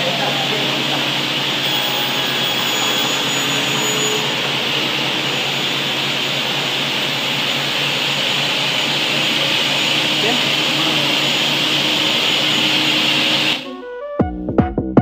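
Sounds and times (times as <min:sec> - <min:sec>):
panel saw whining: 0:00.0 - 0:13.8.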